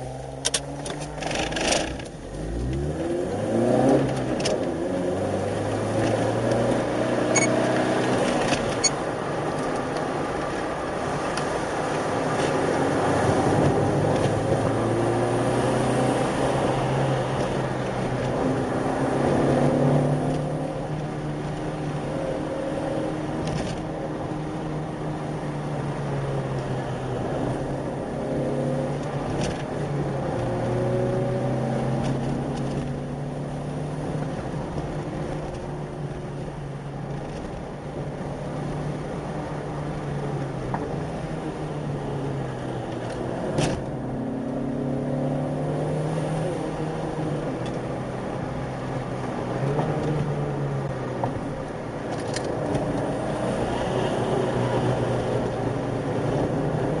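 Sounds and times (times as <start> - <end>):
car engine in cabin: 0.0 - 57.0
road noise: 0.0 - 57.0.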